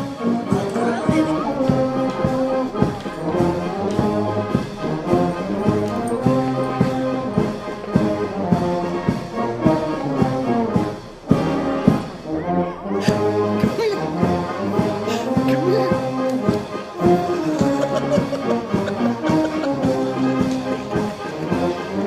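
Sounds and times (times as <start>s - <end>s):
brass music over steady beat: 0.0s - 22.0s.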